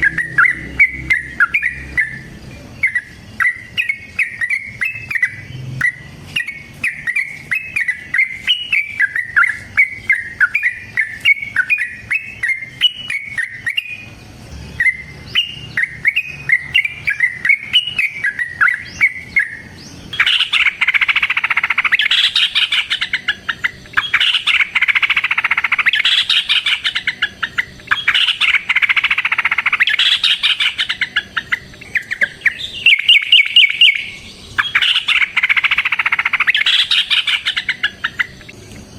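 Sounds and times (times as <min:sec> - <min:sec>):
bird fast dense chattering: 0:00.0 - 0:38.6
bird singing bubbly notes: 0:00.0 - 0:38.9.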